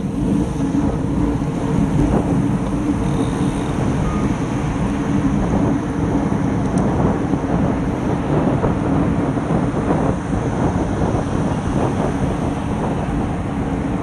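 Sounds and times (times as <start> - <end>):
tyre road noise: 0.0 - 14.0
wind buffeting microphone: 0.0 - 14.0.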